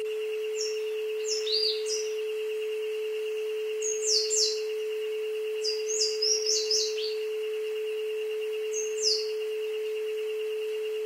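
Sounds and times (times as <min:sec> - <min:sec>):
birds chirping: 0:00.0 - 0:11.0
higher pulsing tone: 0:00.0 - 0:11.0
steady pure tone: 0:00.0 - 0:11.0.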